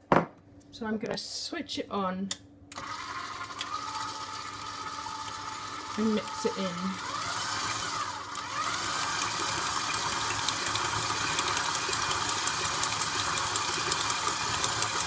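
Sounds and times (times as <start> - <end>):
stand mixer running: 2.8 - 15.0.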